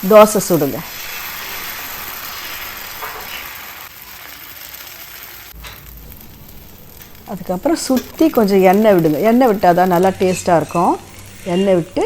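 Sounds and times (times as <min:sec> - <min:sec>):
batter sizzling on hot pan: 0:00.0 - 0:12.0.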